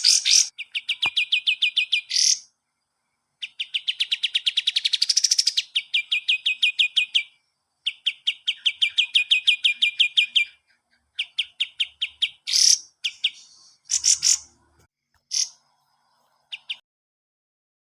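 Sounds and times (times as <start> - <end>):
bird chirping fast: 0.0 - 2.5, 3.4 - 16.8.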